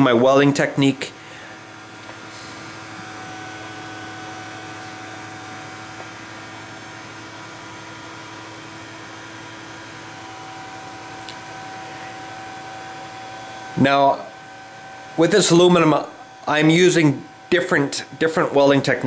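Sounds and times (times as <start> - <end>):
welding arc buzzing hiss: 0.0 - 19.0.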